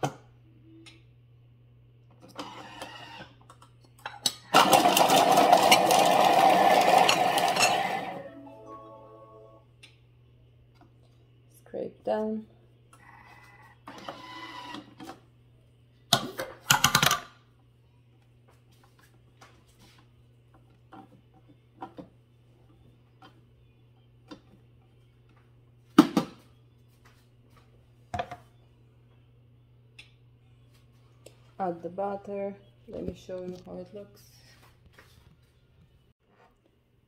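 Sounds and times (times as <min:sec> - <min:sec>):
low steady hum: 0:00.0 - 0:02.6, 0:03.2 - 0:37.0.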